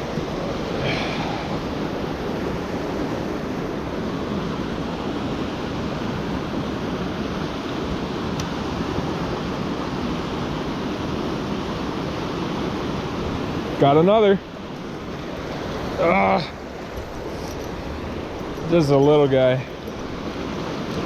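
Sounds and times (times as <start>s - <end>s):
mountain creek flowing water: 0.0s - 21.0s.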